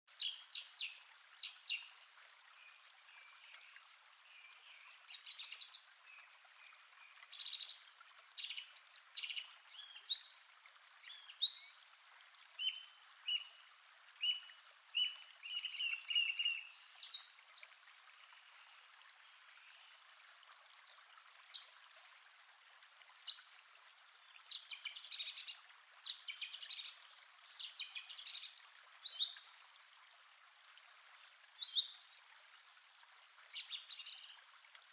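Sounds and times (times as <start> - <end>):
faint steady hiss: 0.1 - 34.9.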